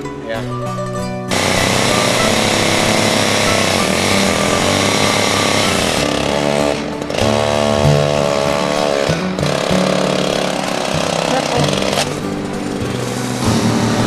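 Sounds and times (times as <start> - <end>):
chainsaw cutting tree trunk: 1.3 - 14.0.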